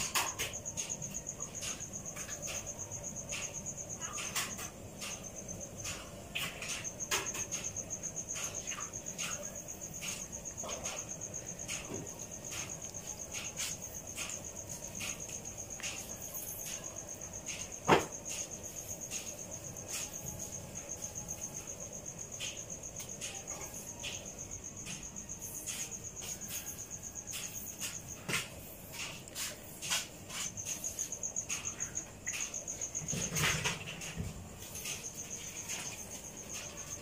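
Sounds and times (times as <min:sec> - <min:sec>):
cricket chirping: 0:00.0 - 0:37.0.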